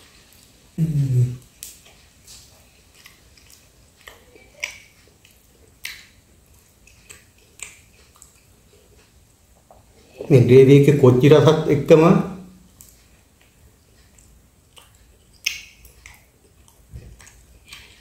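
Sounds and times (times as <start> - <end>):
close-up chewing: 0.0 - 10.4, 12.6 - 18.0.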